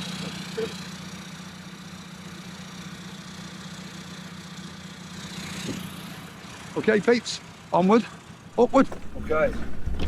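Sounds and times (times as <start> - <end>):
diesel engine running at low revs: 0.0 - 10.0.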